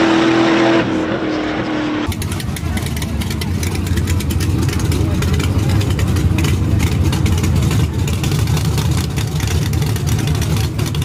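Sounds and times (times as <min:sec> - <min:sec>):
race car engine idling loudly: 0:02.0 - 0:11.0.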